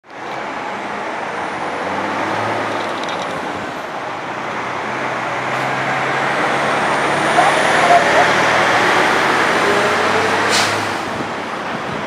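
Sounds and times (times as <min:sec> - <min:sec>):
vehicle rushing hum: 0:00.4 - 0:12.0.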